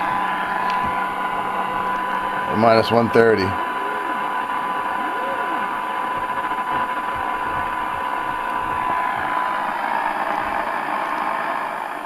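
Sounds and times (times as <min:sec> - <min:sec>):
radio receiver hiss: 0:00.0 - 0:12.0
steady test tone: 0:00.0 - 0:12.0.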